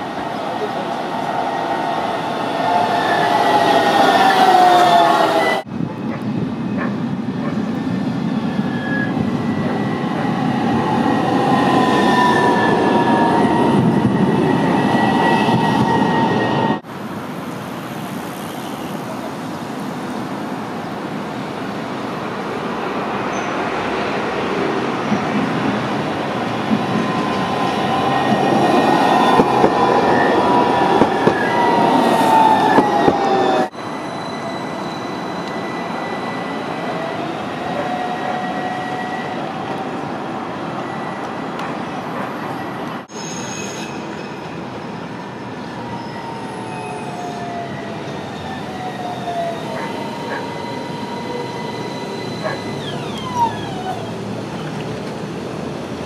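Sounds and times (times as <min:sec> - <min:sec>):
tram electric drive whining: 0:00.0 - 0:56.0
tram rolling and rail noise: 0:00.0 - 0:56.0.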